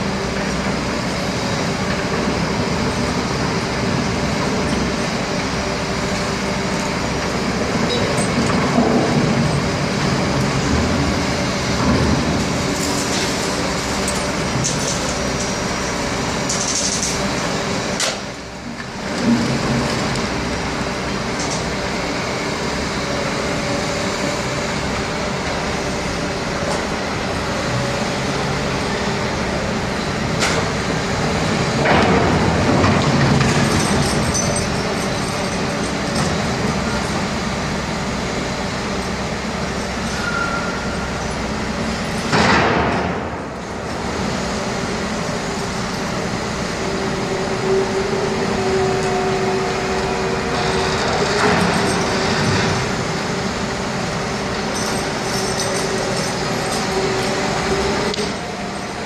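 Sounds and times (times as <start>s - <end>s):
heavy construction machinery running: 0.0s - 59.0s.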